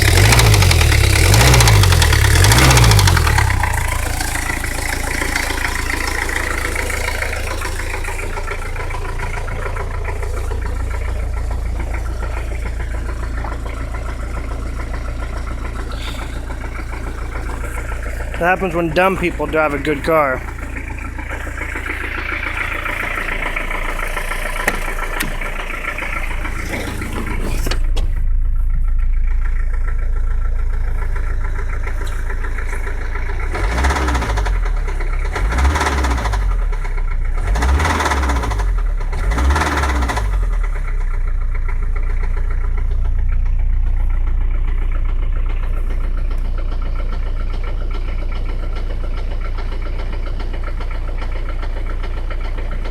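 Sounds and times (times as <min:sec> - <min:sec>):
diesel engine with rod knock: 0:00.0 - 0:52.9.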